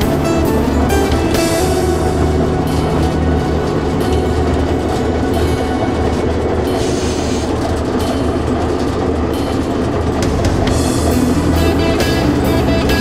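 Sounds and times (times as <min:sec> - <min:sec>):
locomotive engine drone: 0:00.0 - 0:13.0
wheels running on track: 0:00.0 - 0:13.0.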